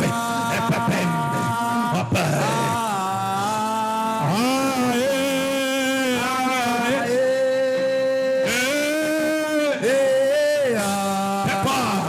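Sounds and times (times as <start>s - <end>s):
man chanting long notes: 0.0s - 12.0s.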